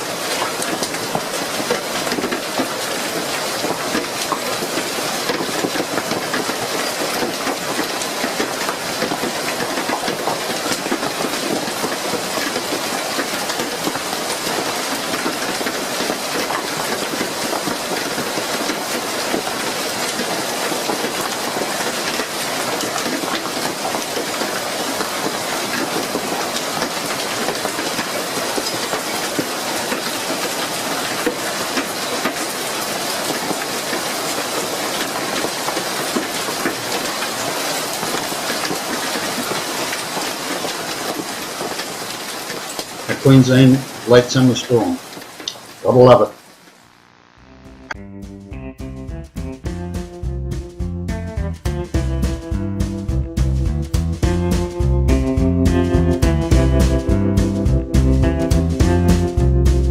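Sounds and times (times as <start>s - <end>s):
heavy rain downpour: 0.0s - 48.0s, 53.4s - 59.9s.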